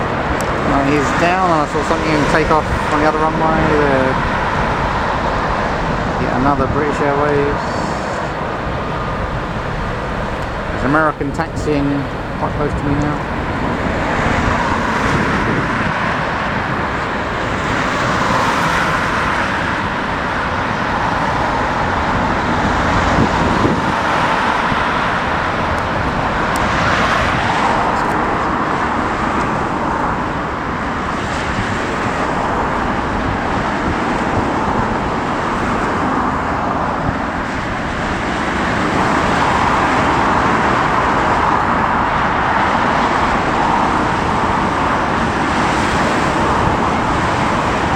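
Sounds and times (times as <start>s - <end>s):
jet airliner engines rumbling: 0.0s - 47.9s
wind buffeting microphone: 0.0s - 47.9s.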